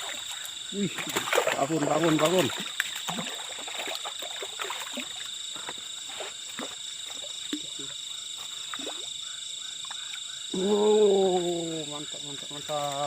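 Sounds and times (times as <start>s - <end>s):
frogs croaking: 0.0s - 13.0s
night insects trilling: 0.0s - 13.0s.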